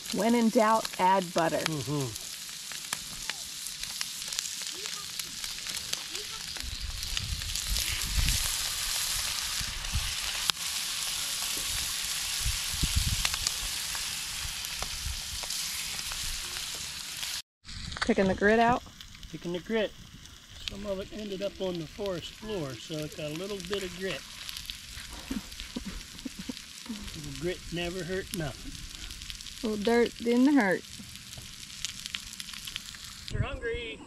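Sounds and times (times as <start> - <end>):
food sizzling in a pan: 0.0 - 33.4.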